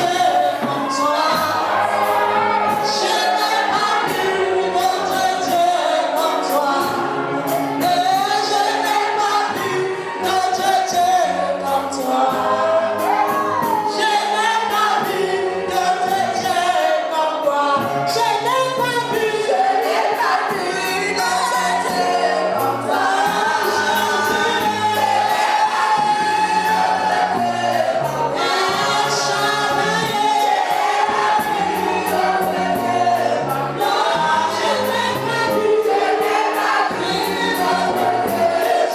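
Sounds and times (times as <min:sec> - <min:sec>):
band with bass and percussion: 0:00.0 - 0:38.9
choir singing gospel song: 0:00.0 - 0:38.9.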